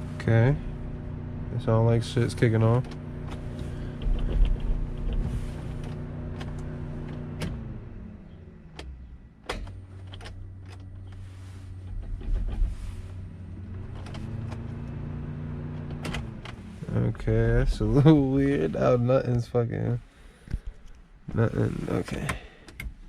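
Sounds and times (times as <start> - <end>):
car engine running: 0.0 - 22.6.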